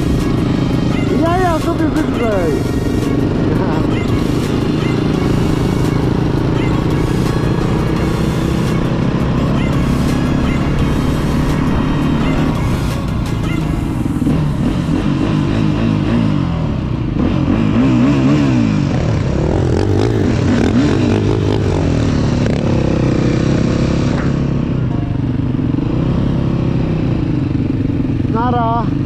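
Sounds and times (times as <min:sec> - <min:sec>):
dirt bike engine revving: 0:00.0 - 0:24.8.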